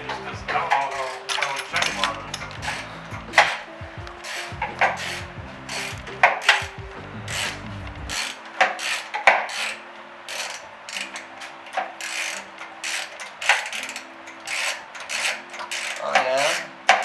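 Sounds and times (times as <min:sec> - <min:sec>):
metal scraping: 0:00.0 - 0:17.0
ratchet wrench clicking: 0:00.8 - 0:17.0.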